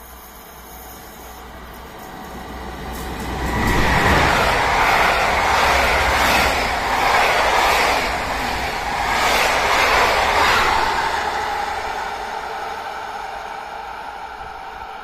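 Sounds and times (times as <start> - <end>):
train passing at speed: 0.0 - 15.0
coach wheels rumbling: 0.6 - 15.0.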